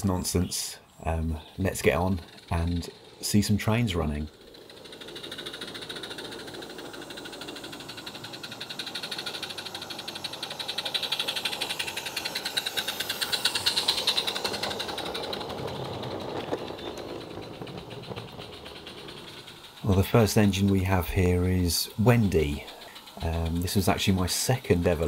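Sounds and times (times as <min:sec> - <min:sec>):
steam engine chuffing rapidly: 0:00.0 - 0:25.0.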